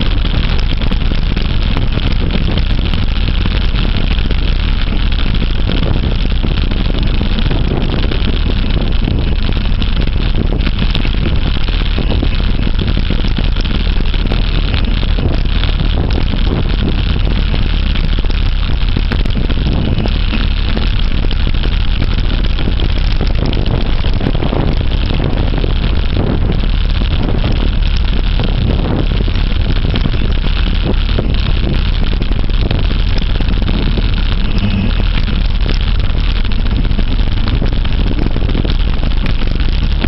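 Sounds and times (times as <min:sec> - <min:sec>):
low rumble of moving bike: 0:00.0 - 0:40.0
wind rushing on microphone: 0:00.0 - 0:40.0.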